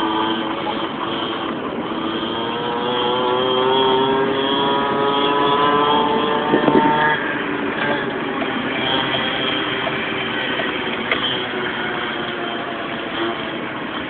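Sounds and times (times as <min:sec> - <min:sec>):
pocket bike engine buzzing: 0:00.0 - 0:14.0.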